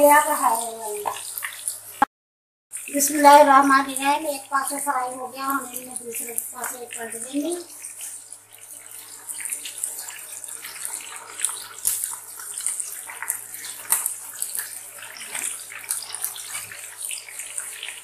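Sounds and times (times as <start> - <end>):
chicken sizzling in hot oil: 0.0 - 2.1, 2.7 - 18.0.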